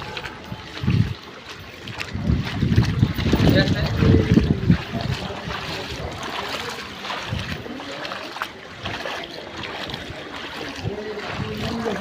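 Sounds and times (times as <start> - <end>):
faint voices: 0.0 - 12.0
water splashing and lapping: 0.0 - 12.0.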